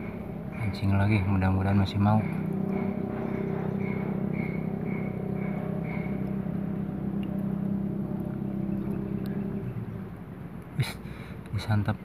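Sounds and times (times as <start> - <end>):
steady motor hum: 0.0 - 11.6.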